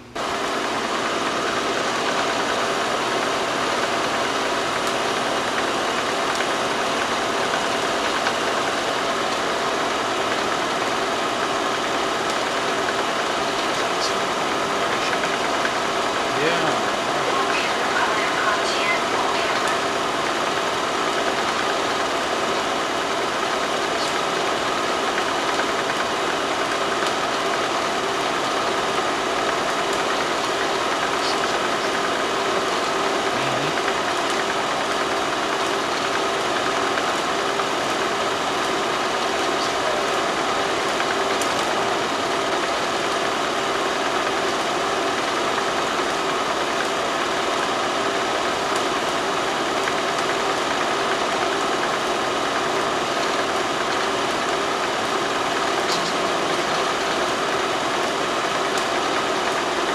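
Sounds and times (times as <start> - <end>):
machine humming with hiss: 0.0 - 59.9.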